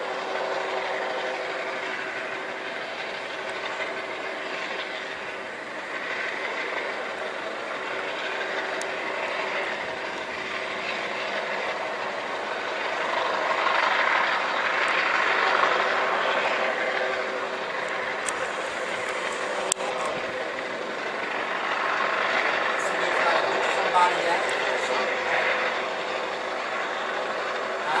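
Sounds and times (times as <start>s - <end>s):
helicopter hovering: 0.0s - 28.0s.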